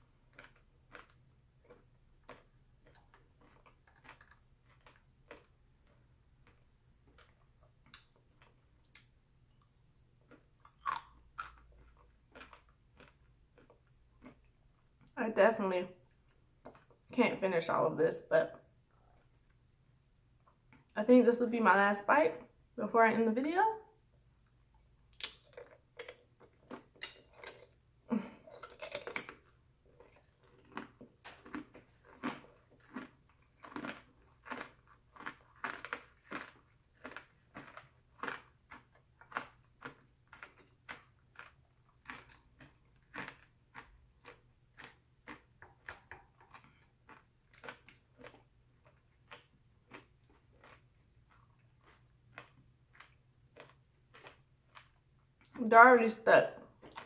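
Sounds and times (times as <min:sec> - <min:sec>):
chewing crunchy candy: 0:00.0 - 0:15.2, 0:25.1 - 0:55.6, 0:56.7 - 0:57.0.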